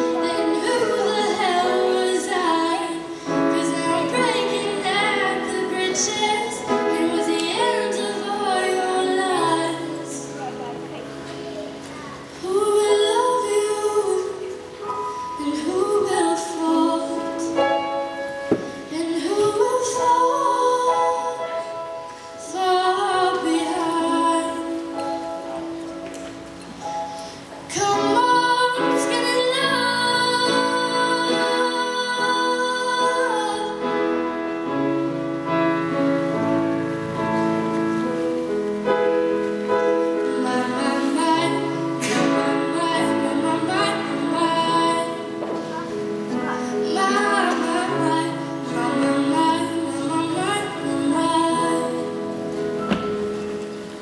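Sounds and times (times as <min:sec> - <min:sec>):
young woman singing: 0:00.0 - 0:10.7, 0:12.3 - 0:25.6, 0:27.7 - 0:34.3, 0:40.0 - 0:53.1.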